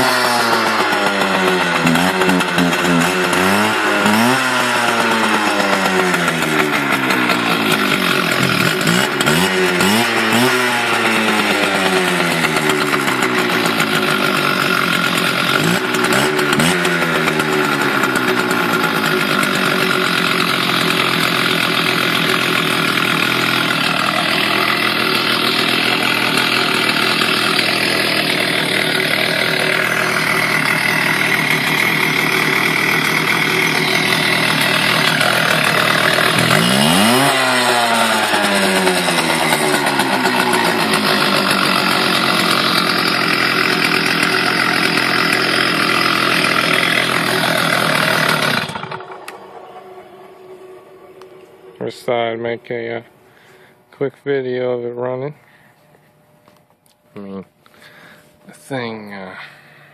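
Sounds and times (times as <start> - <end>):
cut-off saw engine running: 0.0 - 53.7.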